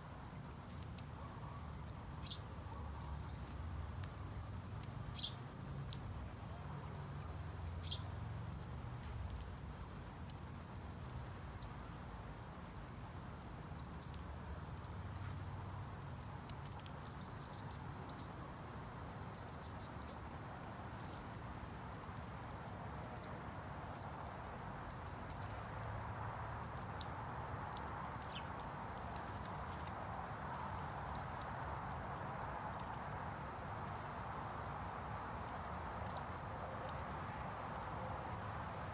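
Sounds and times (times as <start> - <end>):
insect rapid chirping pulses: 0.0 - 1.1, 1.7 - 20.7, 21.3 - 38.9
insect high-pitched trill: 0.0 - 18.6, 19.2 - 20.6, 21.3 - 22.6, 23.2 - 24.2, 24.8 - 38.9.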